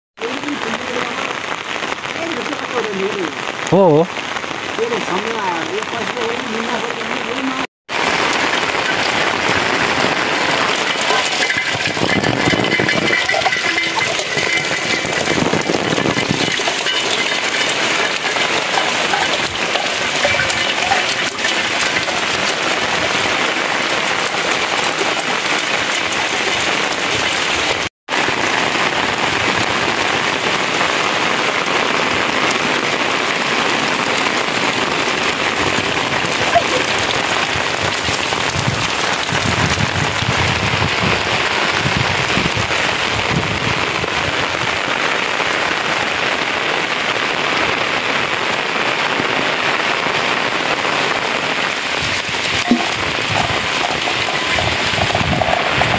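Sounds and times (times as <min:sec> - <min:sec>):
rain splashing on wet ground: 0:00.2 - 0:55.9.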